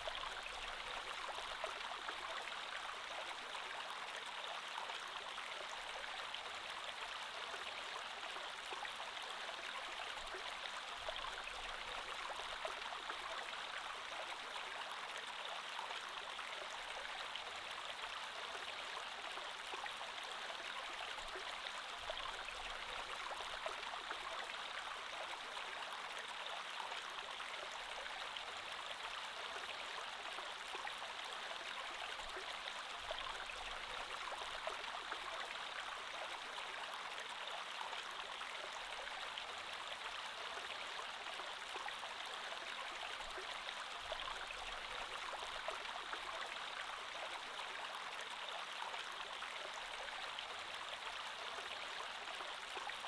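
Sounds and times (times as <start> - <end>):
creek water flowing over rocks: 0.0 - 53.0.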